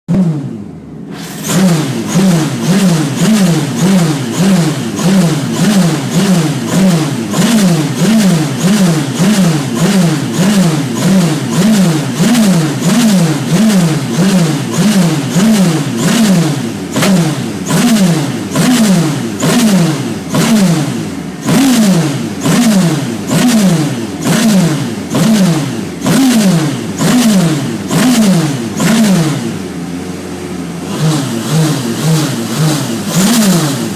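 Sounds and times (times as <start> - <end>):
misfiring engine surging: 0.1 - 33.9.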